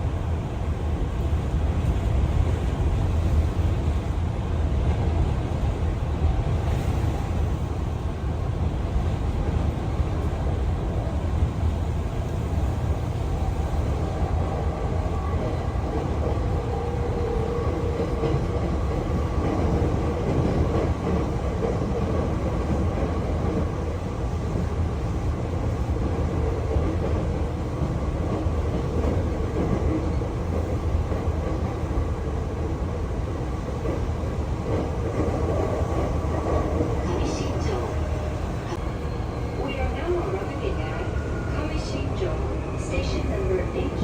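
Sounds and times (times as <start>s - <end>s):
train low rumble: 0.0s - 44.0s.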